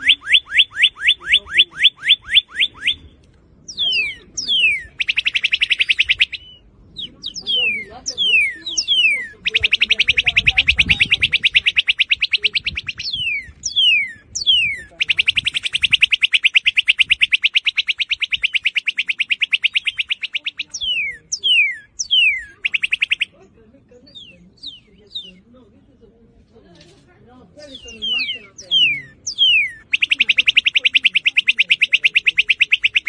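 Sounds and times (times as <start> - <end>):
cardinal whistles and trills: 0.0 - 23.4, 27.6 - 33.0.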